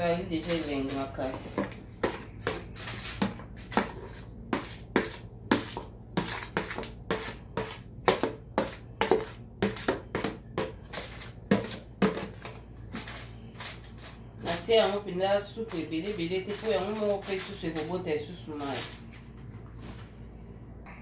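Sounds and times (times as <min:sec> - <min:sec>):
utensil scraping a bowl: 0:00.1 - 0:19.1.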